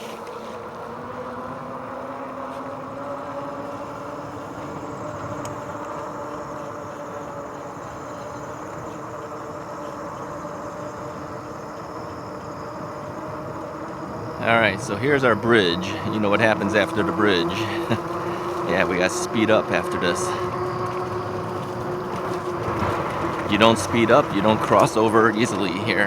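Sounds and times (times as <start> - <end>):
electric motor whining: 0.0 - 26.0
tyre and wind noise: 0.0 - 26.0.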